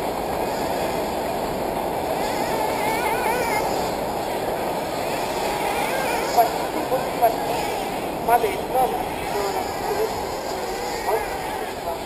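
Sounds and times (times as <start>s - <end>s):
rc buggy engines droning: 0.0s - 12.0s.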